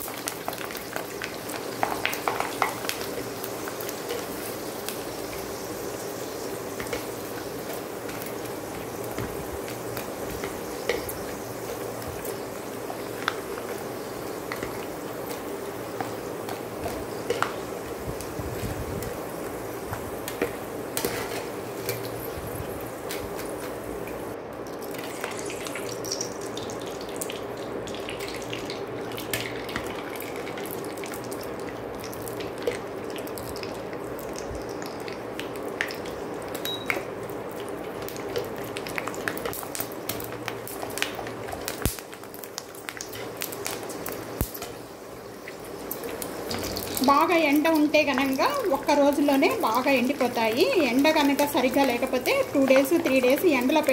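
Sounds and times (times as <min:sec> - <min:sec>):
deep-frying sizzle with pops: 0:00.0 - 0:53.9.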